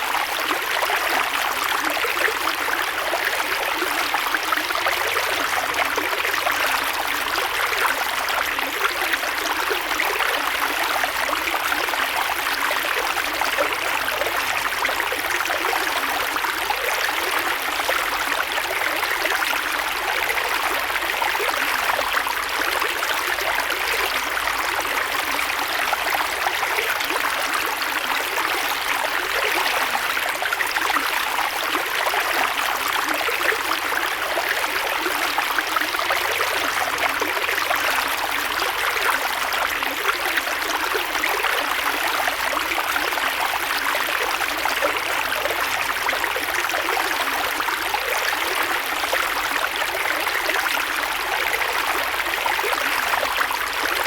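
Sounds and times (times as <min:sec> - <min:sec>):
creek water flowing over stones: 0:00.0 - 0:54.0.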